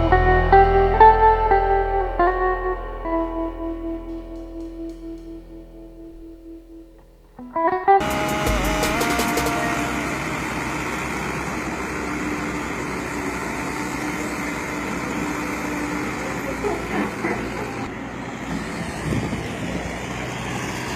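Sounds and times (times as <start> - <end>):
heavy diesel engine running: 0.0 - 6.5, 8.0 - 20.9.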